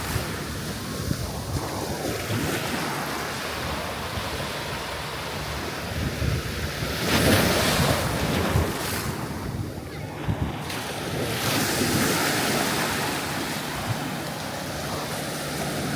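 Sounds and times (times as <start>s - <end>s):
ocean surf washing ashore: 0.0s - 15.9s
wind buffeting microphone: 0.0s - 15.9s.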